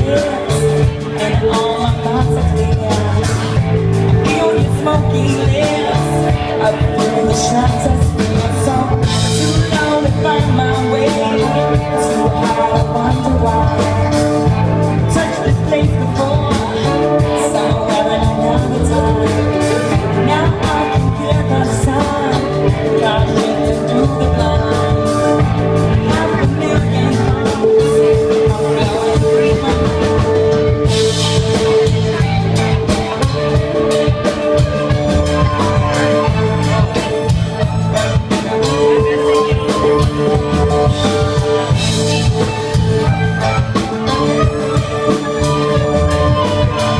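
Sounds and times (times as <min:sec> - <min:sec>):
bass line: 0:00.0 - 0:46.9
drum beat: 0:00.0 - 0:46.9
guitar: 0:00.0 - 0:46.9
rock band playing: 0:00.0 - 0:46.9.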